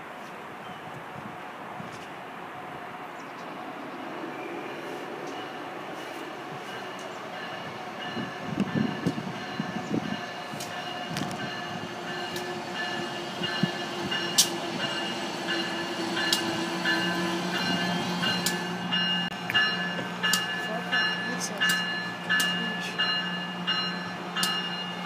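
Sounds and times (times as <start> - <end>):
electric locomotive whine: 2.4 - 25.0.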